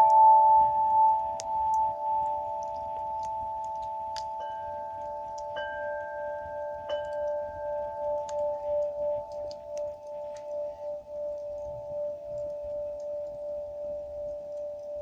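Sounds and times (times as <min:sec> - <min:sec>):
bell-like ringing tones: 0:00.0 - 0:12.1.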